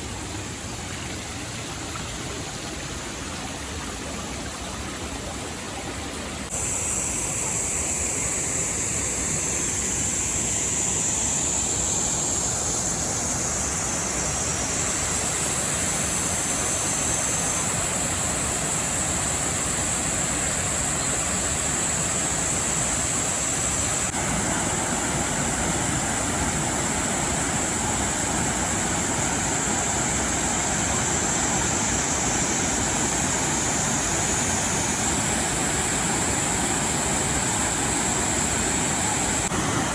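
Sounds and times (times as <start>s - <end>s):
rushing river water: 0.0s - 39.9s.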